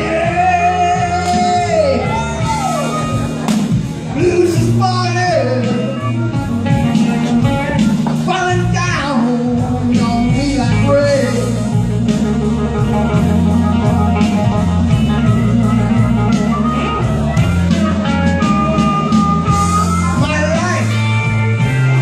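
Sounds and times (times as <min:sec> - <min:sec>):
bass line: 0:00.0 - 0:22.0
drums: 0:00.0 - 0:22.0
lead guitar: 0:00.0 - 0:22.0.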